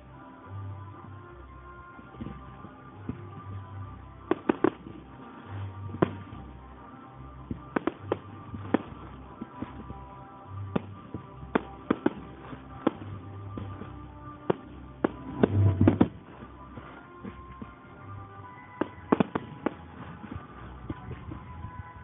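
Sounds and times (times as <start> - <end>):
music over loudspeakers: 0.0 - 22.0
fireworks exploding: 2.0 - 22.0.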